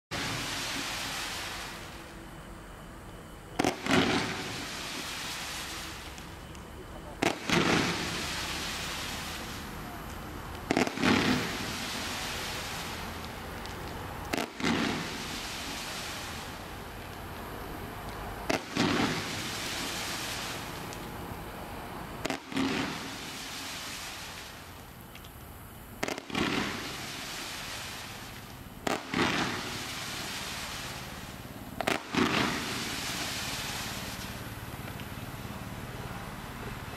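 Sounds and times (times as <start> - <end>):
firework shots cracking: 3.5 - 17.2, 18.0 - 21.2, 22.2 - 35.5.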